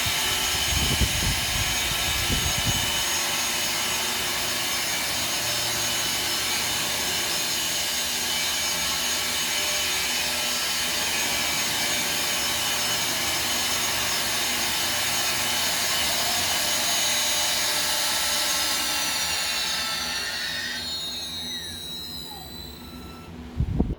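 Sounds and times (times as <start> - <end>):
router spindle whining: 0.0 - 23.9.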